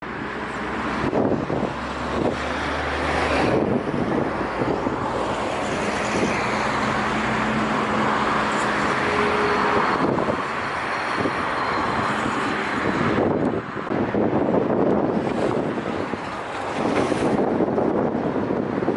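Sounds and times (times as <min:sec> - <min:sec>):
ship engine hum: 0:00.0 - 0:18.9
wind on microphone: 0:00.0 - 0:18.9.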